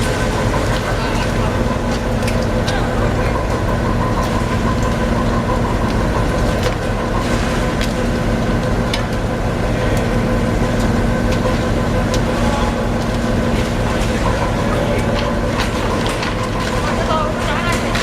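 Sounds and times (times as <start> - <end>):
heavy machinery humming: 0.0 - 18.0.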